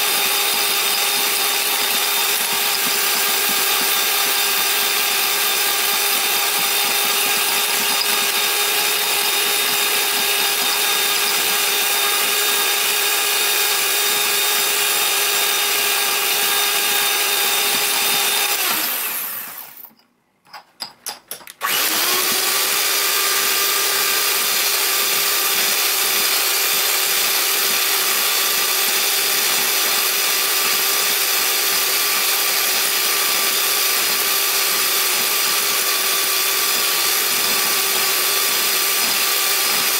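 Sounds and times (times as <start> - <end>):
electric hand mixer running: 0.0 - 19.8, 21.6 - 39.9.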